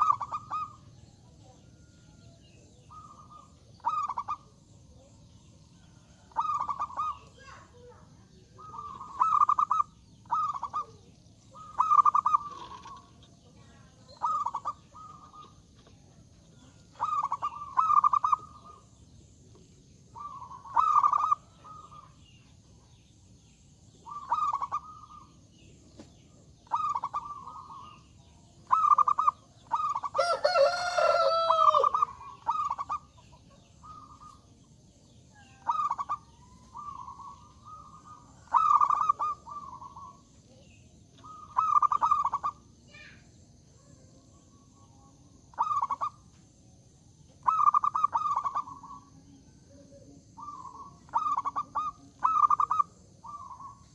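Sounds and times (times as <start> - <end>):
dove cooing: 0.0 - 5.1, 6.0 - 19.0, 20.1 - 22.5, 23.9 - 42.8, 45.5 - 46.3, 47.4 - 53.9.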